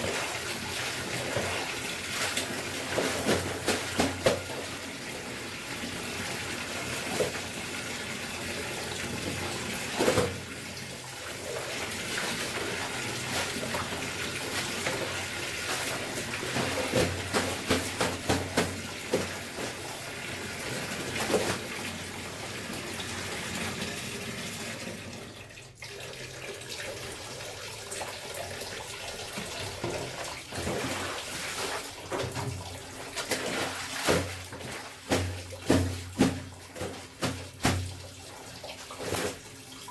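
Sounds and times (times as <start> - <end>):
clothes washed by hand splashing: 0.0 - 23.8, 25.7 - 39.9
running water: 0.0 - 39.9.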